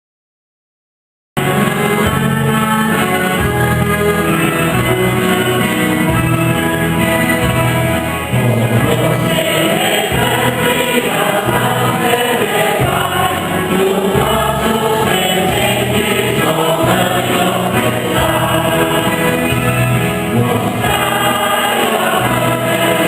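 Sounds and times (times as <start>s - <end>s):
church choir singing a hymn: 1.4s - 23.0s.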